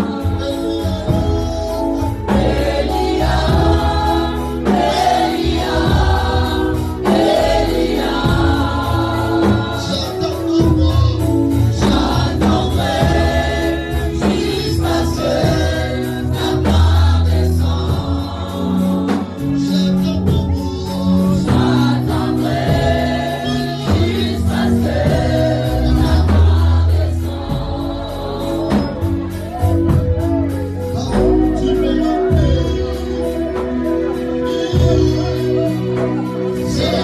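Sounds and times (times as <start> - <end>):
bass and drums: 0.0 - 37.0
gospel choir singing: 0.0 - 37.0.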